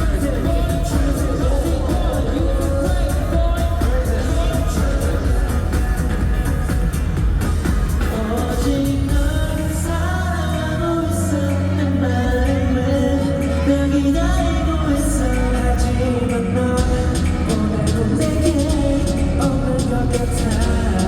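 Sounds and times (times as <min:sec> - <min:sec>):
backing track with heavy bass: 0:00.0 - 0:21.0
men singing pop song: 0:00.0 - 0:21.0.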